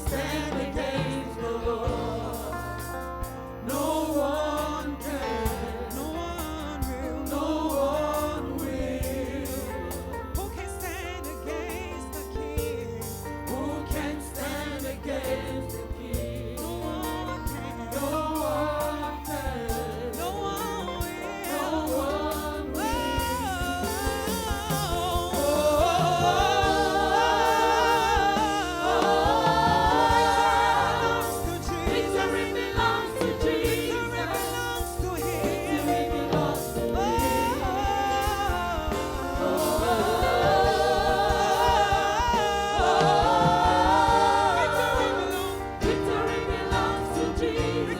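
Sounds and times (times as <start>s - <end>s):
instrumental backing with beat: 0.0s - 47.9s
voices singing gospel: 0.0s - 47.9s.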